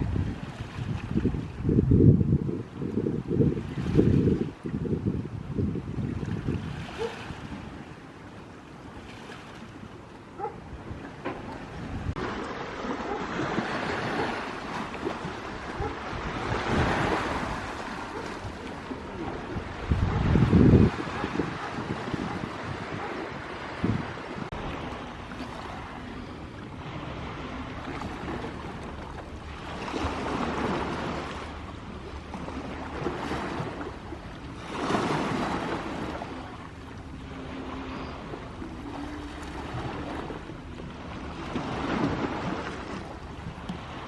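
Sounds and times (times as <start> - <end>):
sea waves washing on shore: 0.0 - 44.0.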